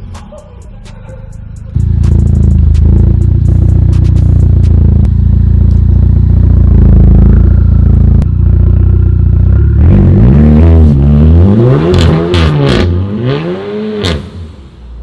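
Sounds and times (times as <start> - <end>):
car engine revving through exhaust: 1.7 - 15.0.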